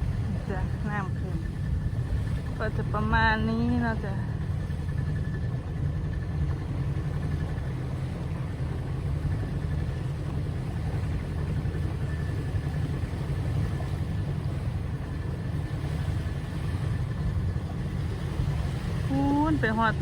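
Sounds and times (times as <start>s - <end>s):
faint steady whine: 0.0s - 20.0s
motorboat engine rumbling: 0.0s - 20.0s.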